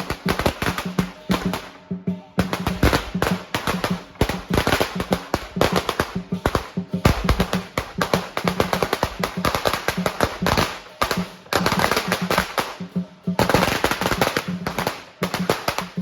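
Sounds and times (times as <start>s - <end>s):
drum beat: 0.0s - 16.0s
firecrackers crackling: 0.0s - 16.0s.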